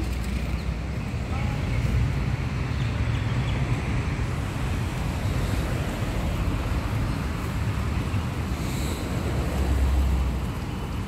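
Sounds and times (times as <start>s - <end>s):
distant road traffic: 0.0s - 11.0s.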